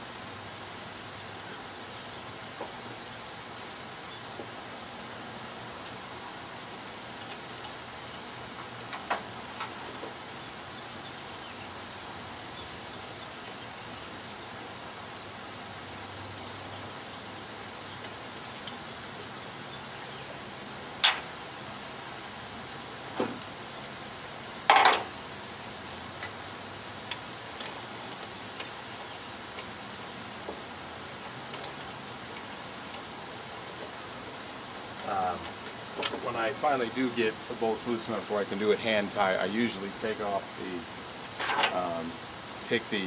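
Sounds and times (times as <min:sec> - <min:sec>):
steady hiss: 0:00.0 - 0:43.0.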